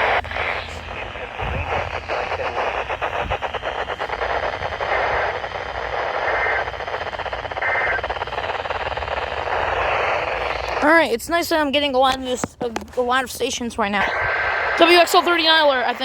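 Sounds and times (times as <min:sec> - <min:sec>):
radio static hiss with crackling: 0:00.0 - 0:16.0.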